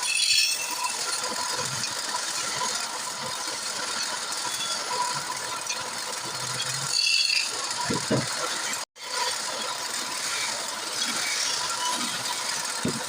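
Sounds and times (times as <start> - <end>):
wood lathe tool cutting: 0.0 - 13.0.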